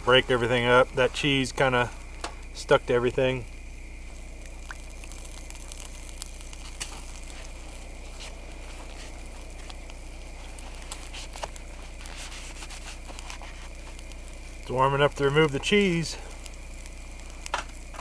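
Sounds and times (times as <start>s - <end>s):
coals crackling: 0.0s - 18.0s
meat sizzling on a grill: 0.0s - 18.0s
sharp pops: 3.6s - 18.0s.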